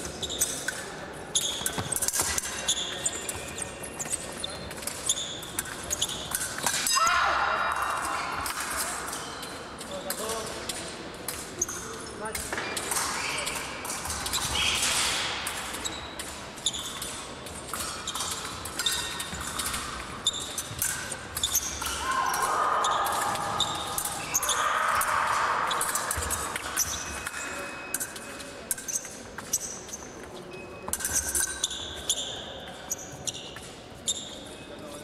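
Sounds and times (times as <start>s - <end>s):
fencing blades clashing: 0.0s - 34.6s.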